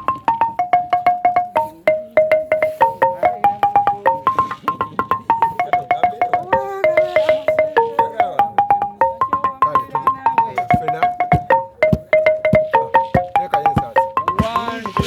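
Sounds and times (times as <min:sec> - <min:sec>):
deep low xylophone strokes: 0:00.0 - 0:15.0
wooden xylophone rapid notes: 0:00.0 - 0:15.0.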